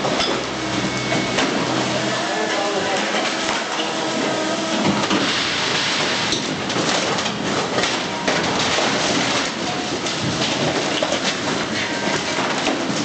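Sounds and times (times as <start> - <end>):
debris clattering and crashing: 0.0 - 13.0
hydraulic machine running: 0.0 - 13.0.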